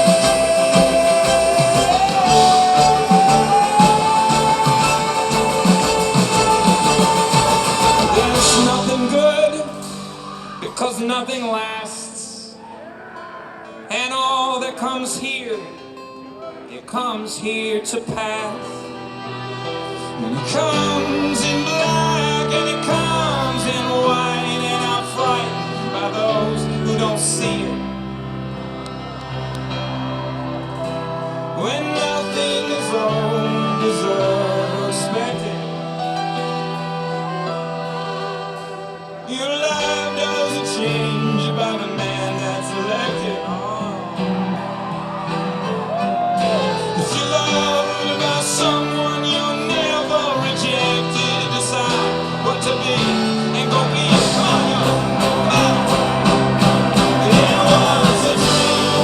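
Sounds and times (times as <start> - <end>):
bass: 0.0 - 10.8, 20.2 - 37.8, 40.2 - 59.0
man singing: 0.0 - 19.2, 19.9 - 28.2, 31.4 - 44.6, 46.2 - 59.0
acoustic guitar: 0.0 - 59.0.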